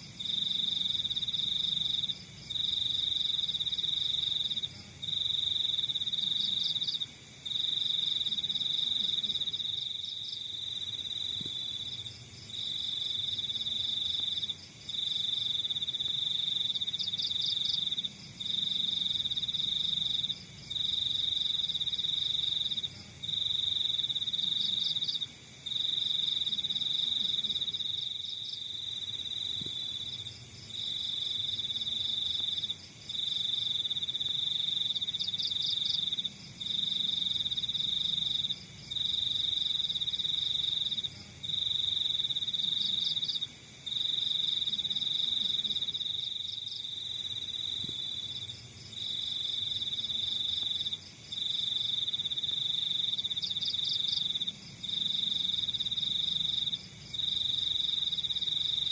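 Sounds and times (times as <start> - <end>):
cricket trilling: 0.0 - 58.9
insect chirps: 0.0 - 58.9.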